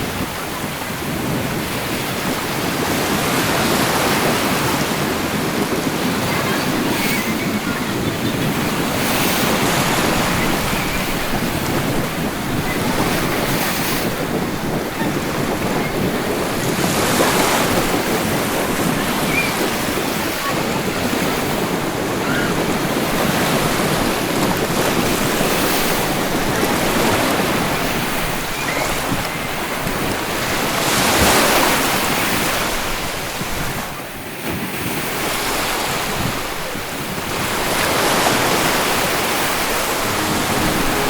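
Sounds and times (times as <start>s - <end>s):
waves breaking: 0.9s - 33.7s, 34.3s - 41.0s.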